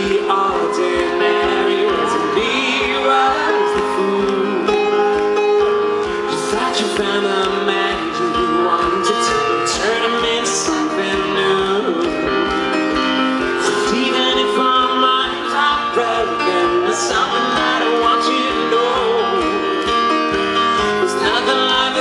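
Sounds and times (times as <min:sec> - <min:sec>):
backing band playing: 0:00.0 - 0:22.0
man singing into microphone: 0:00.0 - 0:22.0.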